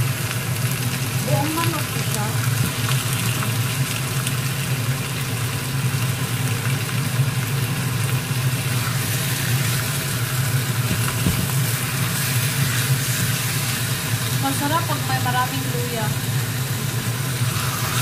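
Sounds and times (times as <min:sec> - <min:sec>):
food sizzling in a wok: 0:00.0 - 0:18.0
low machine hum: 0:00.0 - 0:18.0.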